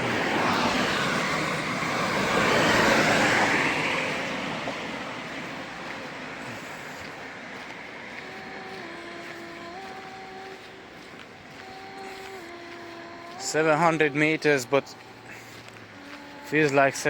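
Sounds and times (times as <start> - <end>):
vehicle driving past: 0.0 - 17.0.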